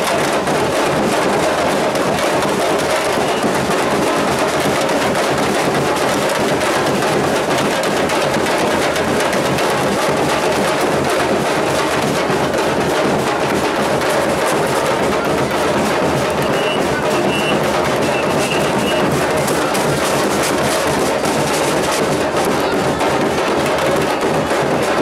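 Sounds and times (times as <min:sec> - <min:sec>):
bass drums: 0:00.0 - 0:25.0
snare drums: 0:00.0 - 0:25.0.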